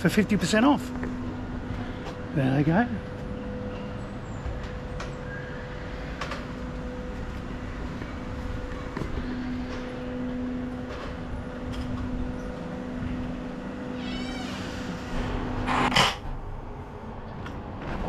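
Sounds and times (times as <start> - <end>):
drive machinery humming: 0.0 - 18.0.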